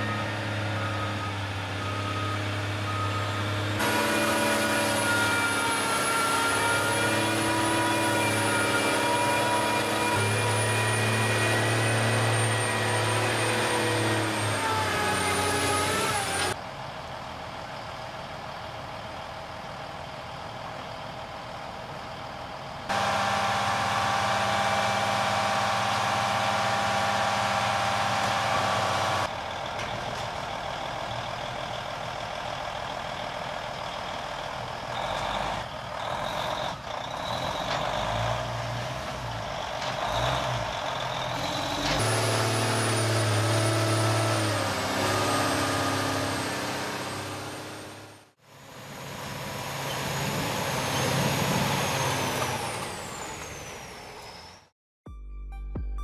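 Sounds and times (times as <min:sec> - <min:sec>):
heavy diesel truck engine: 0:00.0 - 0:54.7.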